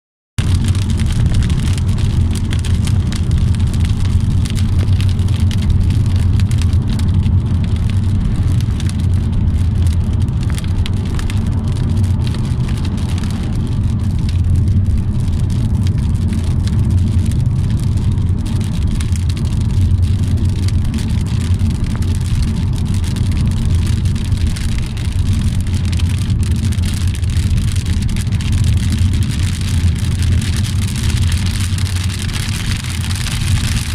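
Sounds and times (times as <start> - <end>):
low vehicle rumble: 0.4 - 33.9
rain drops ticking on car: 0.4 - 33.9.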